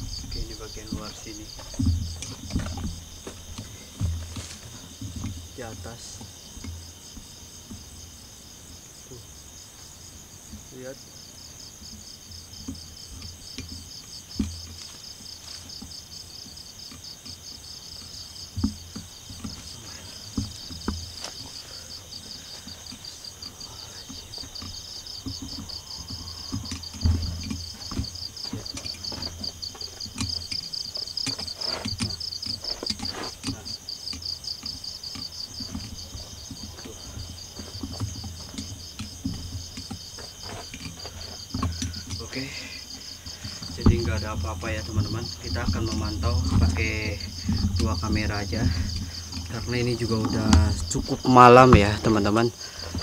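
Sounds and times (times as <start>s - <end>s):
low thumps and knocks: 0.0s - 8.5s, 9.2s - 53.0s
night insects trilling: 0.0s - 53.0s.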